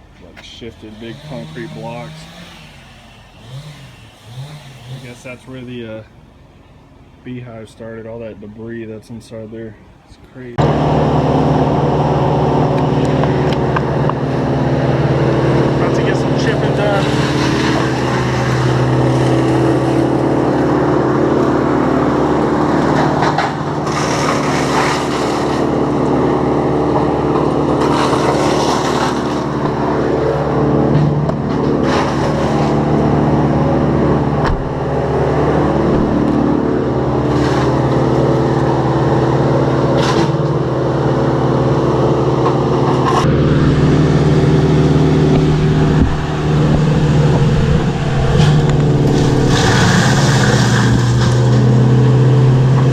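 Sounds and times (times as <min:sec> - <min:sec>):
motor engine running: 0:00.0 - 0:52.9.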